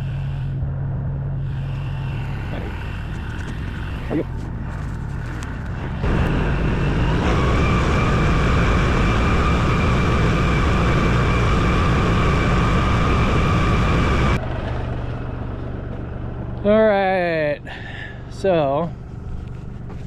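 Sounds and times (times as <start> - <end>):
steady high whine: 0.0 - 20.0
tractor engine running: 0.0 - 20.0.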